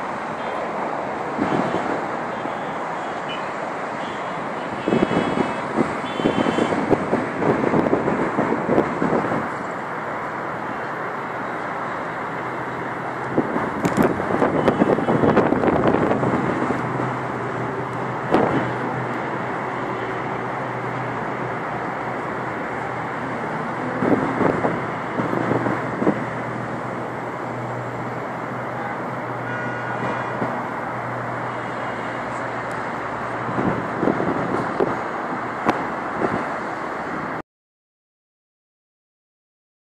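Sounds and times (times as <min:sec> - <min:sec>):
road traffic noise: 0:00.0 - 0:37.4.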